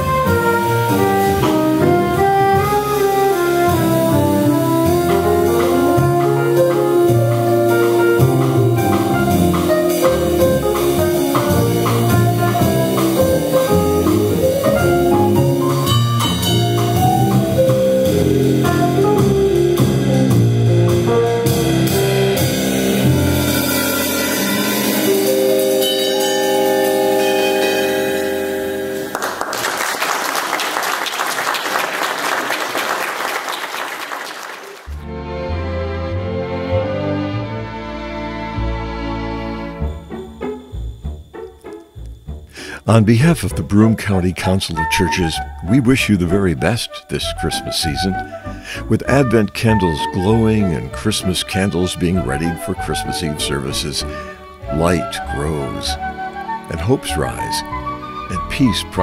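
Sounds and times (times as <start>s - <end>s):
jazz band playing: 0.0s - 29.9s, 34.9s - 59.0s.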